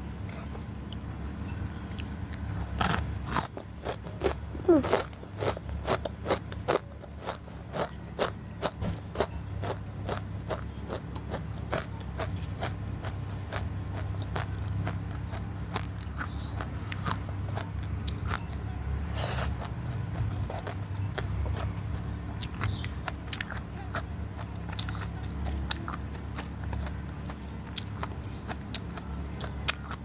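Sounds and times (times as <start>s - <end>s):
steady low hum: 0.0s - 30.0s
person chewing crunchy food: 1.9s - 30.0s.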